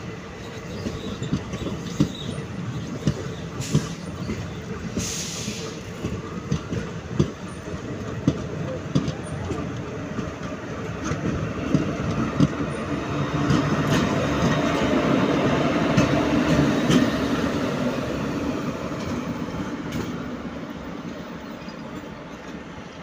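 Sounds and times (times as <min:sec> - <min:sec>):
rumble of wheels on rail: 0:00.0 - 0:23.0
wheels clacking over rail joints: 0:00.4 - 0:20.3.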